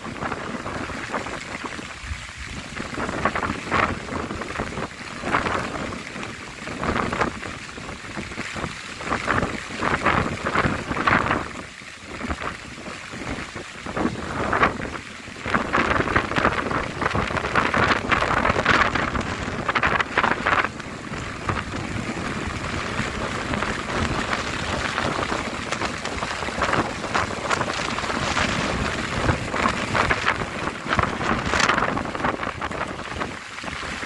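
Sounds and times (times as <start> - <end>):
gusty wind buffeting microphone: 0.0 - 34.0
rain falling: 0.0 - 34.0.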